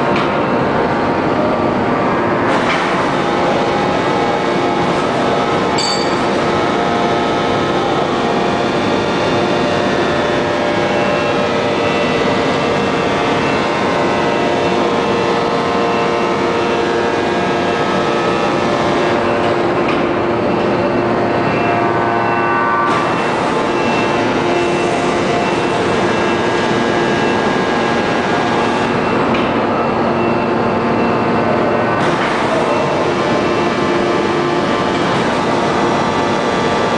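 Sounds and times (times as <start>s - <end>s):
machinery drone with whining tones: 0.0s - 36.9s.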